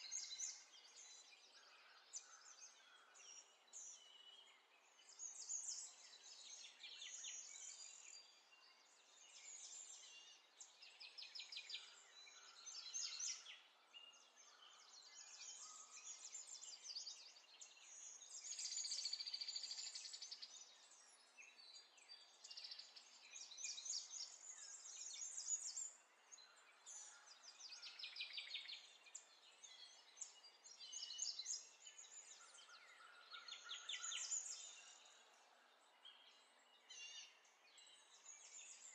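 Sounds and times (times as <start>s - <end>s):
faint birds chirping and trilling: 0.0s - 38.9s.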